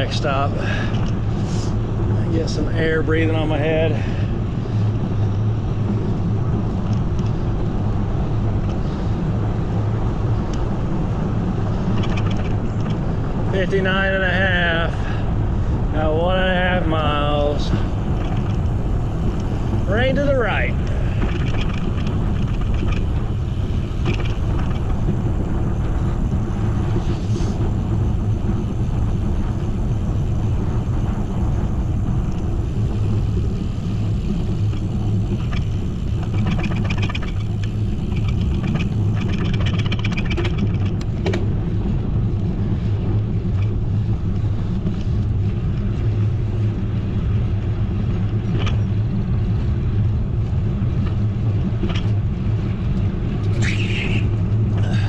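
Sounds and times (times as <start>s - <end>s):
road noise: 0.0s - 55.0s
wind rumble on microphone: 0.0s - 55.0s.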